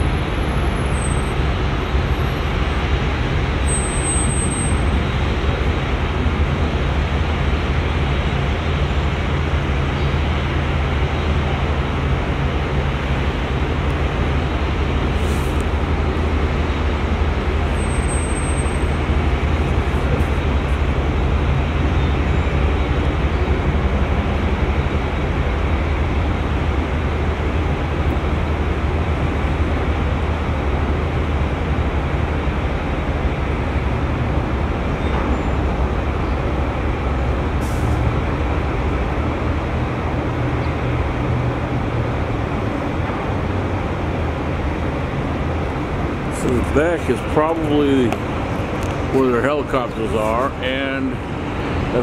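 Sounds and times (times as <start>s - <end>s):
ship machinery hum and rumble: 0.0s - 52.0s.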